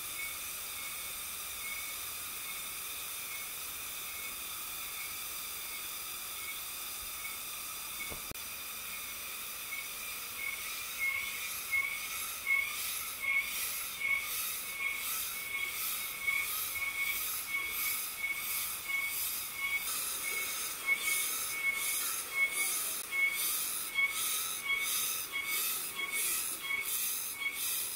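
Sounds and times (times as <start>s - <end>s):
cicadas buzzing: 0.0s - 27.9s.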